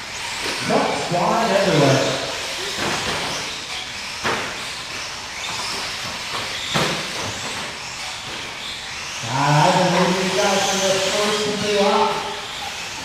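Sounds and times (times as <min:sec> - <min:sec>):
rc trucks motors and tyres hissing: 0:00.0 - 0:13.0.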